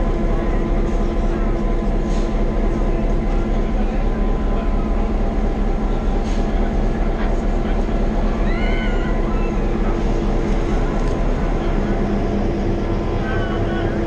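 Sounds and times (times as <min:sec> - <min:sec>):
locomotive engine rumbling: 0:00.0 - 0:14.0.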